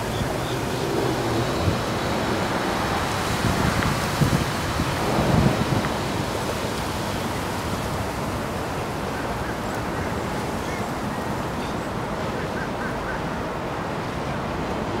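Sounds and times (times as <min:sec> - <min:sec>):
wind rushing on microphone: 0:00.0 - 0:12.4
choppy water: 0:00.0 - 0:15.0.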